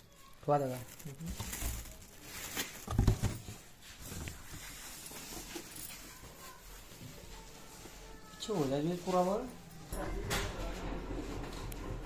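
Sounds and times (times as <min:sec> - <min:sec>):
plastic film rustling: 0:00.0 - 0:09.7.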